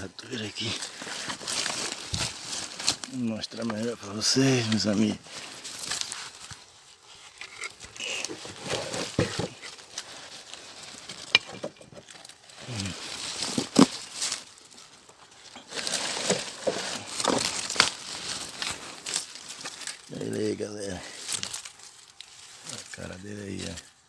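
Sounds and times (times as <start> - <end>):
leaves and twigs rustling: 0.0 - 24.0.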